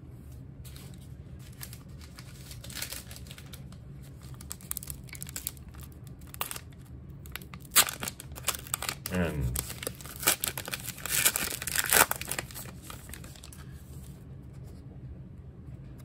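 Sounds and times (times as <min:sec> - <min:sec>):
wrapper crinkling and tearing: 0:00.7 - 0:13.8.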